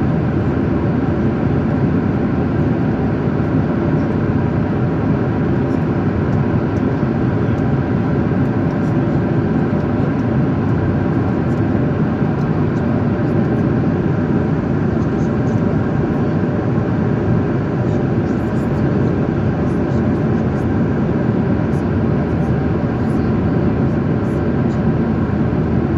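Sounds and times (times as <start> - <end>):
airliner cabin jet engine rush: 0.0 - 25.9.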